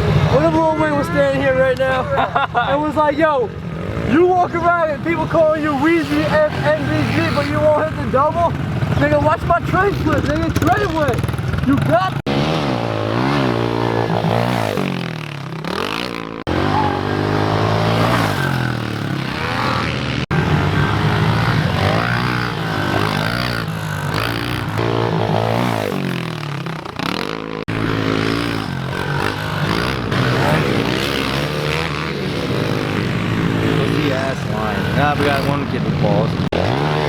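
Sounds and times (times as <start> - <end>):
pit bike engines revving: 0.0 - 37.0.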